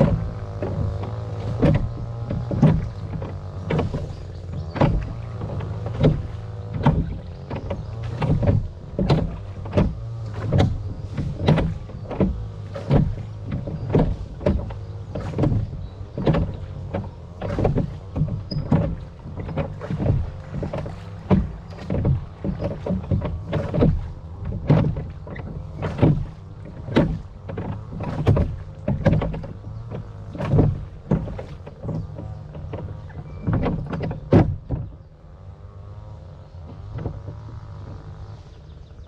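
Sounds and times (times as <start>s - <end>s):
low steady rumble: 0.0s - 39.0s
oars splashing in water: 0.0s - 39.0s.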